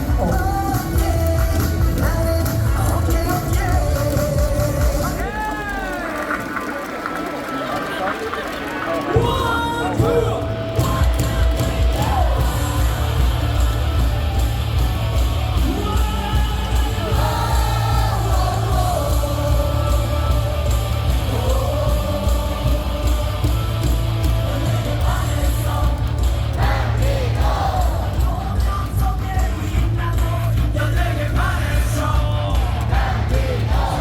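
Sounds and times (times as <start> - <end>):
crowd singing along: 0.0 - 5.3, 9.2 - 34.0
rock song over loudspeakers: 0.0 - 34.0.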